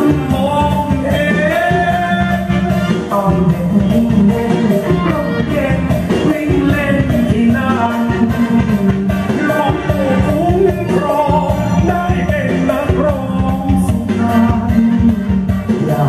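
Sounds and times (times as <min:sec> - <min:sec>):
upbeat dance song with singer: 0:00.0 - 0:16.0.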